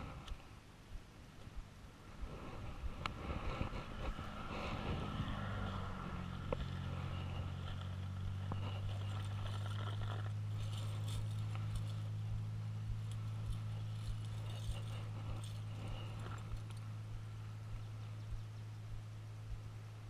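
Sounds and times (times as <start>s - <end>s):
low mechanical hum: 0.0s - 20.0s
light rustling: 1.4s - 18.4s.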